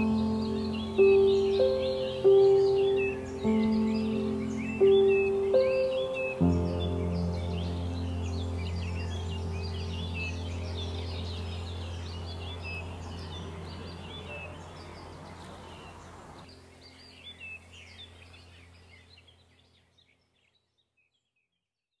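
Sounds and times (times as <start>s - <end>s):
low steady drone: 0.0s - 19.4s
small birds chirping: 0.0s - 22.0s.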